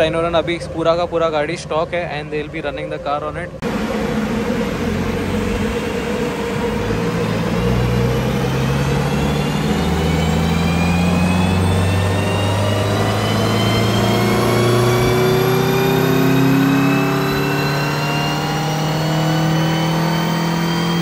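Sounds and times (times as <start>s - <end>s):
car engine revving under load: 0.0s - 21.0s.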